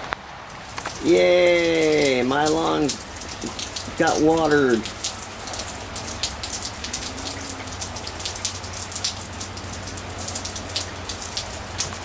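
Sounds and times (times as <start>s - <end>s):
raindrops ticking close by: 0.1s - 12.0s
light rain hissing: 0.3s - 12.0s.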